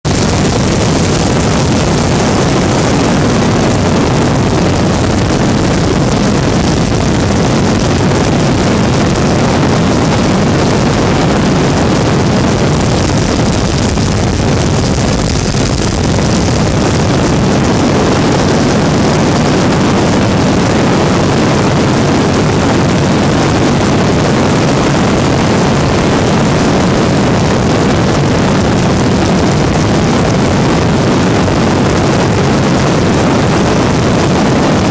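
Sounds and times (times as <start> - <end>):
ultralight engine drone: 0.0 - 34.9.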